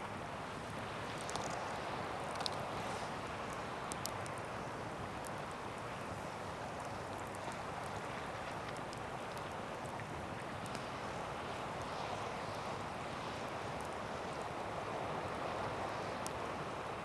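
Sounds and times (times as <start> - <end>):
campfire crackling: 0.6 - 15.4.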